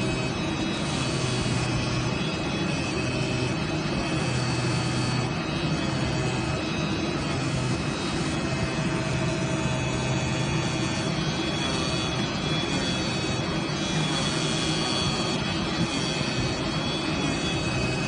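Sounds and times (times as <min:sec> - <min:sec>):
cutting machine humming and hissing: 0:00.0 - 0:18.0.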